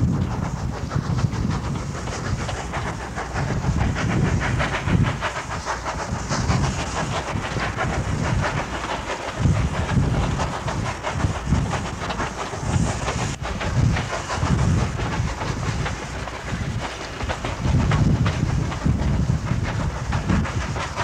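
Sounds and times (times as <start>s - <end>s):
low rumble: 0.0s - 21.0s
steam locomotive exhaust beating: 0.0s - 21.0s.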